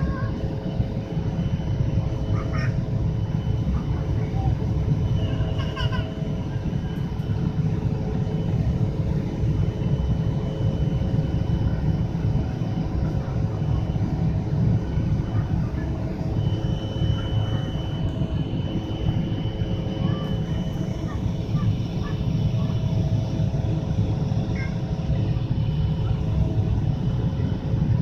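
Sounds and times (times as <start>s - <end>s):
high whine: 0.0s - 28.0s
jet engine and airflow rumble: 0.0s - 28.0s.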